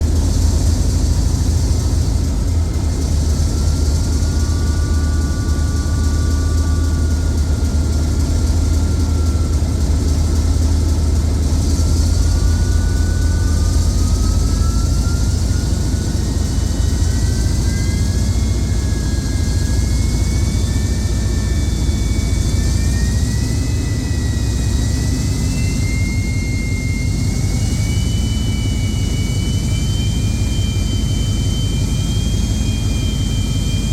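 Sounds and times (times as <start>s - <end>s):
diesel engine low rumble: 0.0s - 33.9s
turbochargers whistling: 0.0s - 33.9s.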